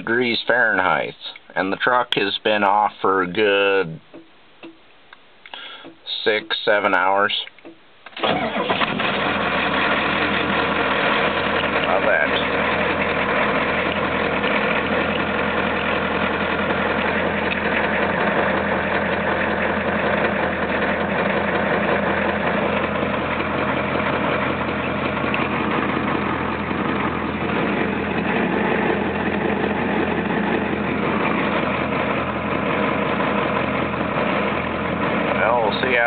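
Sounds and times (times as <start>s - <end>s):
diesel engine idling: 2.7s - 36.0s.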